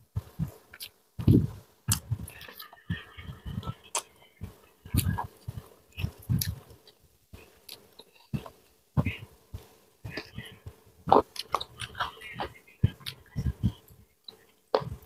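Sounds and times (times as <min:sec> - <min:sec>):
chewing and mouth sounds: 0:00.2 - 0:15.0.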